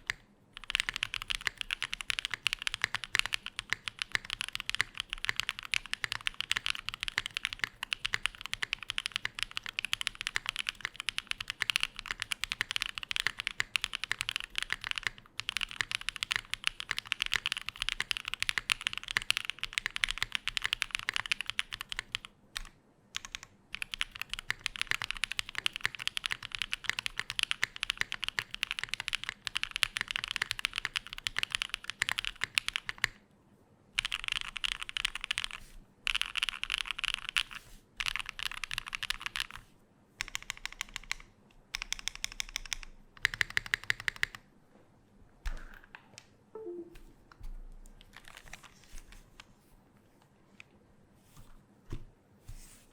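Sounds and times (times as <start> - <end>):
mechanical keyboard typing: 0.0 - 33.2, 34.0 - 39.6, 40.2 - 44.5.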